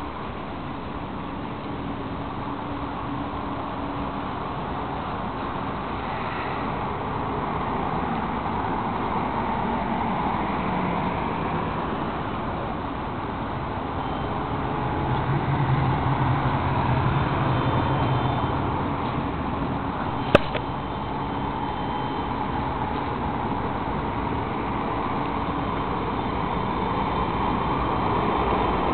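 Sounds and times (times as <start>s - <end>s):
cars passing on street: 0.0s - 28.9s
heavy vehicle engine hum: 0.0s - 28.9s.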